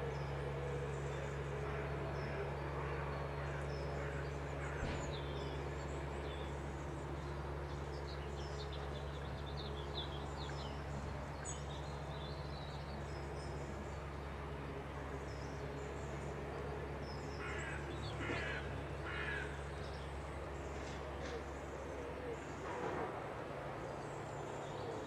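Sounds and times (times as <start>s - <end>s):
songbirds chirping and whistling: 0.0s - 22.6s
steady low hum: 0.0s - 25.0s.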